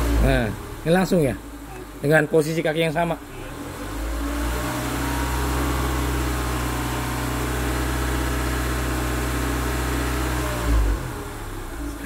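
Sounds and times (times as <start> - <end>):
car engine revving: 0.0 - 1.6, 3.2 - 12.0.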